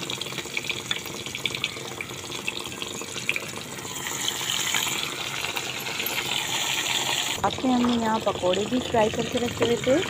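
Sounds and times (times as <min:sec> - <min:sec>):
fish deep-frying in oil: 0:00.0 - 0:10.0.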